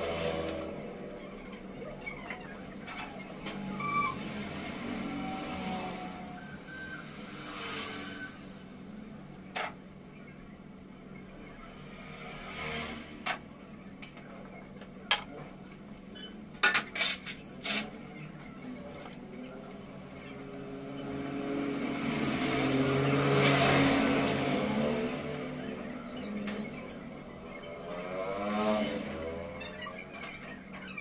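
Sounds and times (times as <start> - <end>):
motor vehicle engine: 0.0 - 16.4, 17.3 - 31.0.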